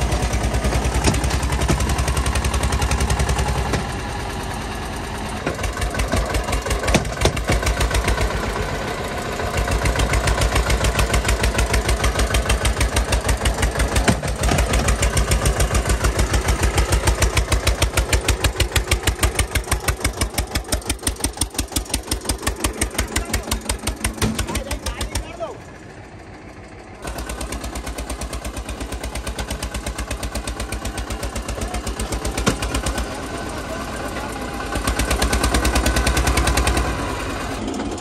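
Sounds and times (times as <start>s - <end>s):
tractor diesel engine chugging: 0.0s - 38.0s.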